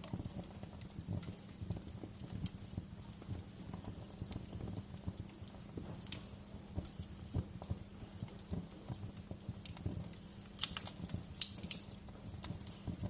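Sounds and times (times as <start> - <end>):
low rumble of burning: 0.0 - 13.0
wood fire crackling: 0.0 - 13.0.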